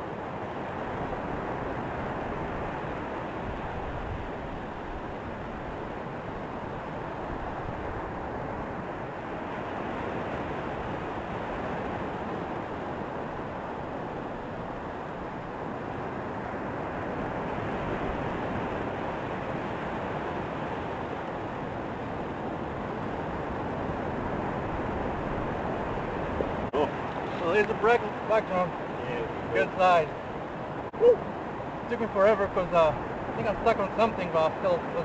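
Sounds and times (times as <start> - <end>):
surf washing onto beach: 0.0 - 35.0.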